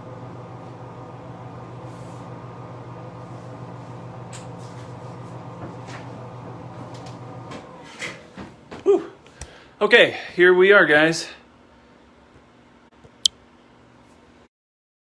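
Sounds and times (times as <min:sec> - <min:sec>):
electric fan motor humming: 0:00.0 - 0:13.3.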